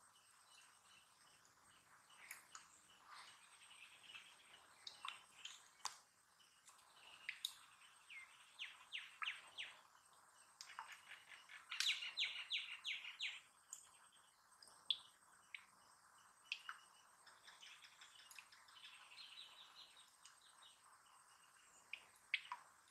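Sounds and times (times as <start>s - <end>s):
birds chirping: 0.0s - 22.7s.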